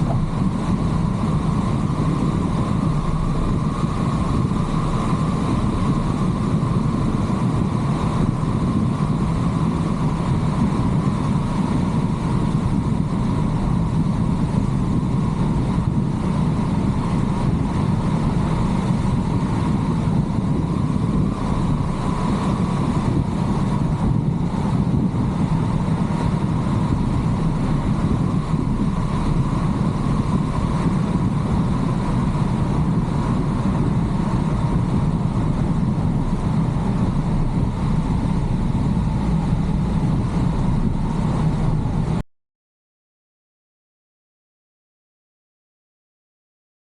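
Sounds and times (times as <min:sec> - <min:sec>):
car engine: 0:00.0 - 0:42.2
tyre road noise: 0:00.0 - 0:42.2.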